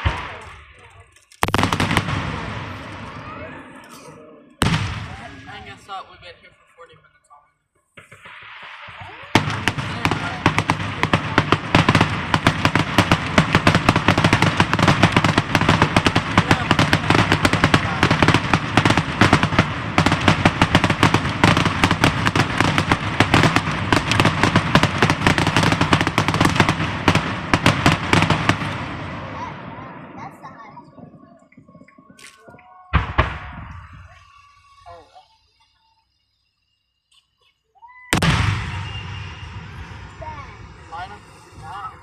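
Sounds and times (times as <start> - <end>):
fireworks crackling bangs: 0.0 - 6.2, 7.9 - 36.0, 38.1 - 42.0.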